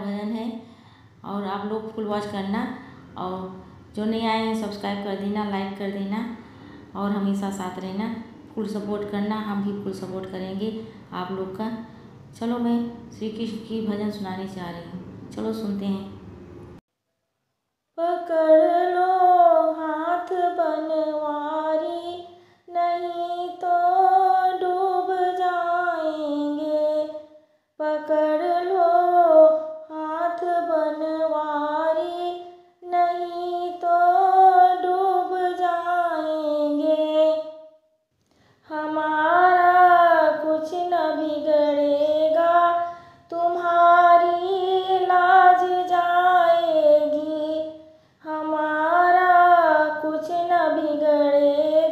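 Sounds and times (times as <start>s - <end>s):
woman singing devotional song: 0.0s - 16.1s, 18.0s - 37.8s, 38.5s - 51.9s.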